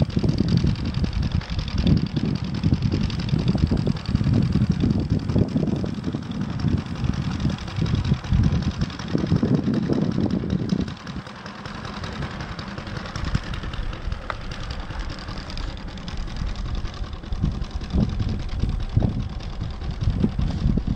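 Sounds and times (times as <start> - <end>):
model plane engine idling: 0.0 - 20.9.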